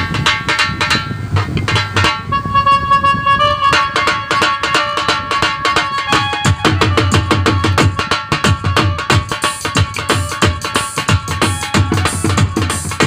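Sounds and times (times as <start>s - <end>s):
drum beaten with sticks: 0.0s - 13.0s
electronic keyboard melody: 1.6s - 13.0s.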